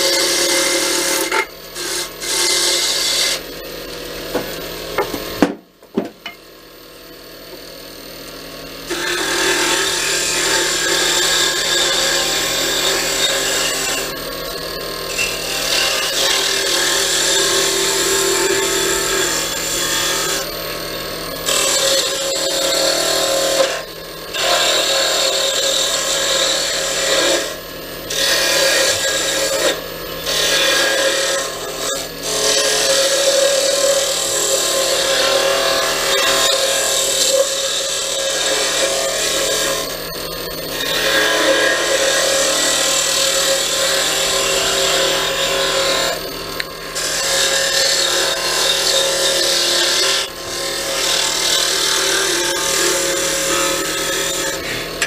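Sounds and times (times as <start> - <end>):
wood lathe motor hum: 0.0 - 5.2, 7.5 - 55.0.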